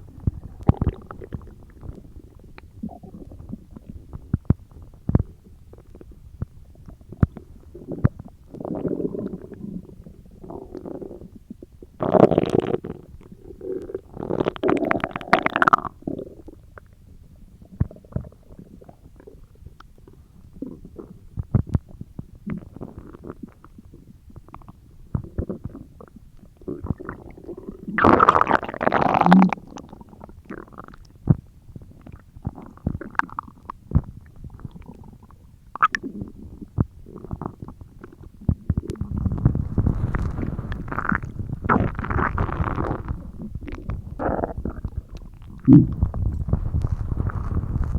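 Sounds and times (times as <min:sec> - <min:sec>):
stomach growling: 0:00.0 - 0:47.9.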